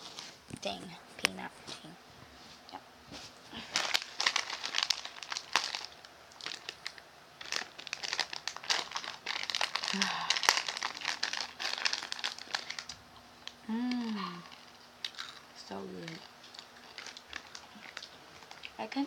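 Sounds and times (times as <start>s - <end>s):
plastic snack pouch crinkling: 3.6s - 19.0s.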